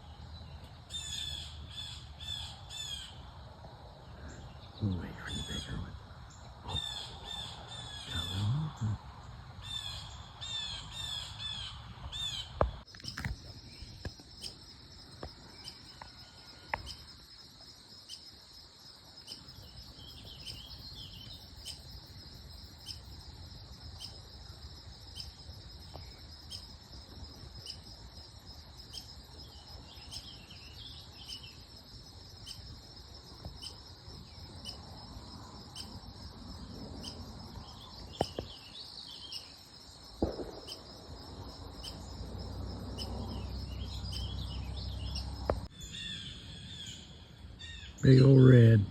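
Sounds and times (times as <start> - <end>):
pulsing insect chorus: 0.0 - 48.9.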